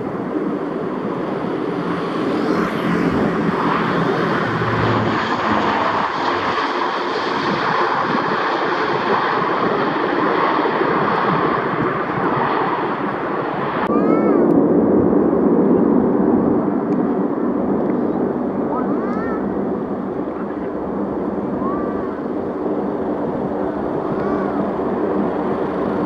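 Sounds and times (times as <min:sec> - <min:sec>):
turboprop engines running: 0:00.0 - 0:26.0.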